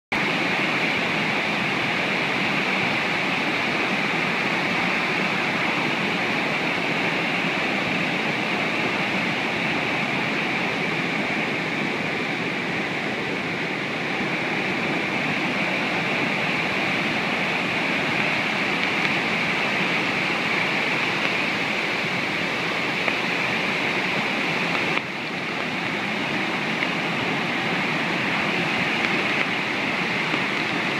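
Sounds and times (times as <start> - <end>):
rushing water: 0.1 - 30.9.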